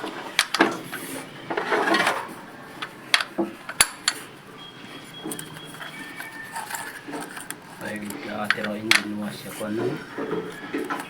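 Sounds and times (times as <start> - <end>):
rough handling noise: 0.0 - 4.4, 5.0 - 11.0
metal tools clinking on metal: 0.4 - 4.3, 5.0 - 11.0.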